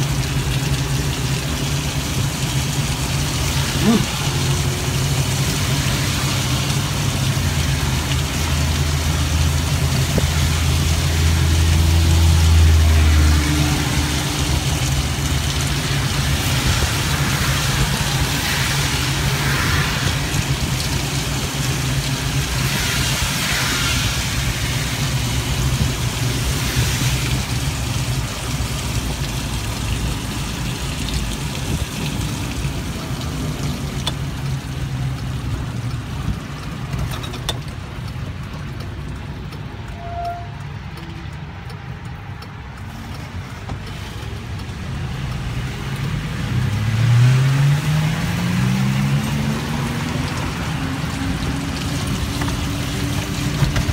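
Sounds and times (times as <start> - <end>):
rain and wet road hiss: 0.0 - 53.9.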